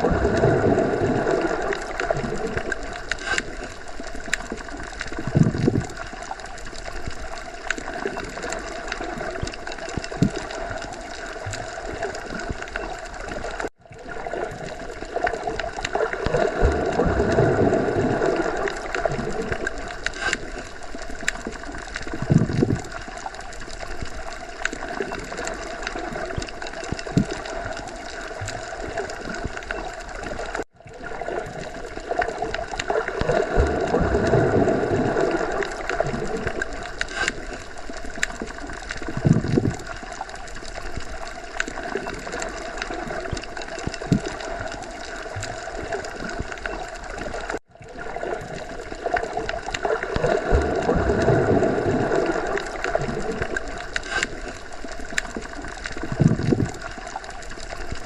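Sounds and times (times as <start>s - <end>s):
underwater water noise: 0.0s - 58.0s.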